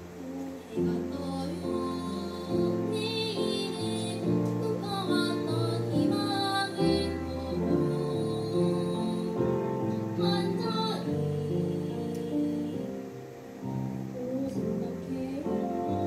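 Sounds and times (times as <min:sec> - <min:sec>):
piano accompaniment: 0:00.0 - 0:16.0.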